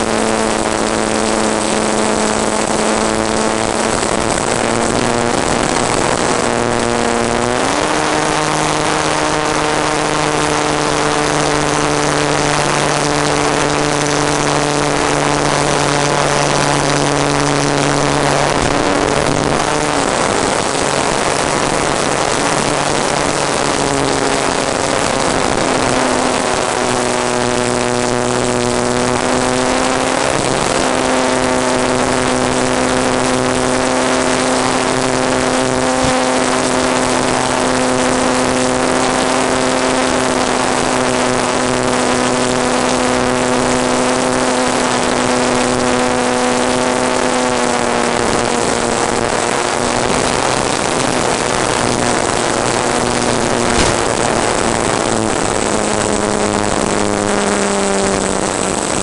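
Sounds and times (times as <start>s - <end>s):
model aircraft motor droning: 0.0s - 59.0s
rushing wind noise: 0.0s - 59.0s.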